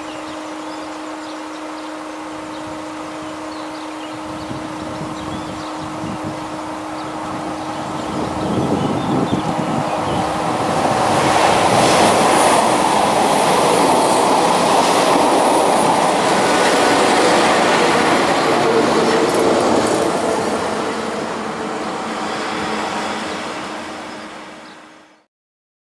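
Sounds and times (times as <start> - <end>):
steady train hum: 0.0 - 25.3
train wheels rolling on rail: 3.0 - 24.8.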